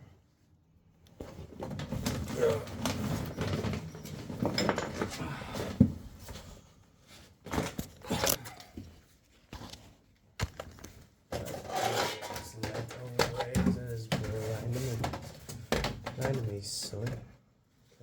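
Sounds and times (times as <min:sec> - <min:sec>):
clattering and scraping handling noises: 0:01.0 - 0:17.4.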